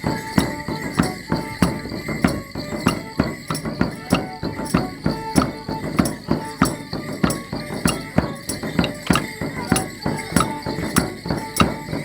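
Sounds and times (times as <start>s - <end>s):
folk dance tune: 0.0s - 12.0s
jingling: 0.0s - 12.0s
sharp rhythmic strikes: 0.0s - 12.0s.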